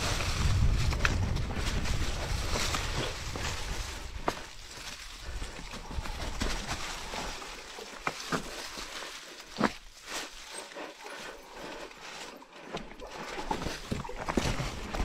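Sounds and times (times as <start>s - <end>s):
bike rattling over roots: 0.0s - 11.2s, 13.1s - 15.0s
bike tyres crunching over leaves: 0.0s - 12.4s.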